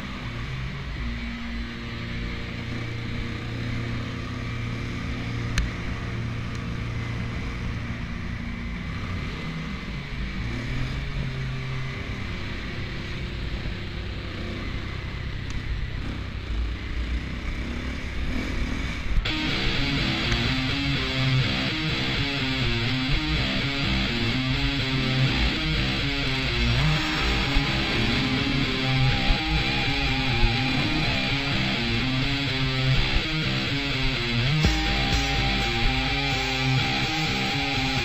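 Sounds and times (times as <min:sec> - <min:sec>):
dirt bike engine running: 0:00.0 - 0:38.0.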